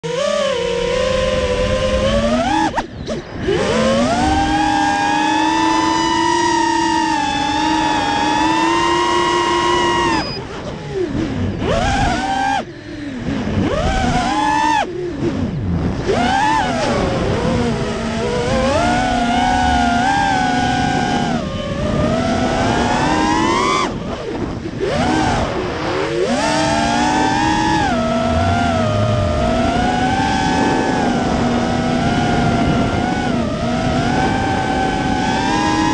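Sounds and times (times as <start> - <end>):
quadcopter motors and propellers whining: 0.0 - 35.9.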